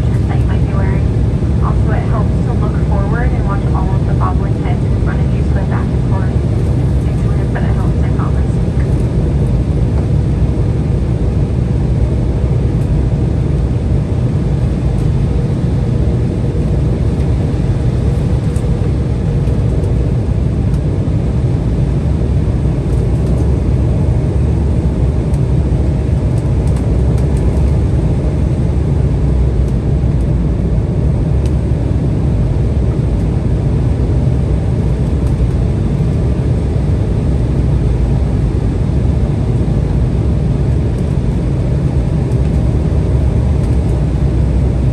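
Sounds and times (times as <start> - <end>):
airliner cabin engine roar: 0.0 - 44.9.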